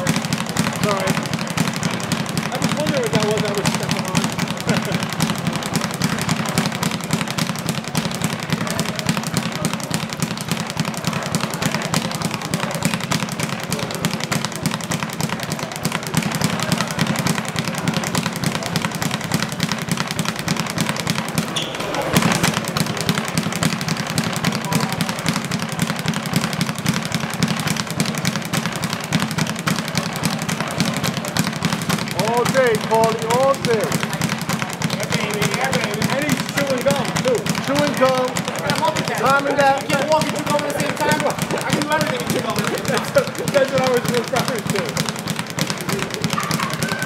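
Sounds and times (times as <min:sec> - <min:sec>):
loud knock: 0:00.0 - 0:47.0
speed bag rattling: 0:00.0 - 0:47.0.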